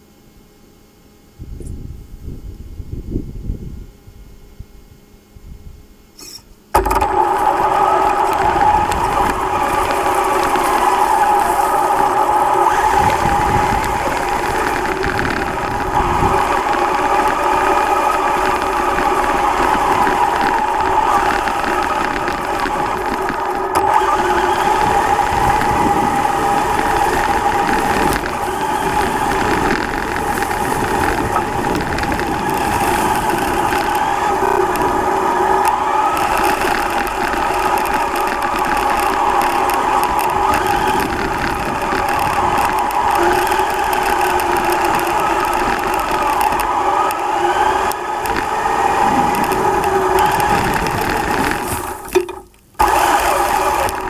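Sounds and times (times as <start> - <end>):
rc car electric motor whining: 6.2 - 52.1, 52.8 - 54.0.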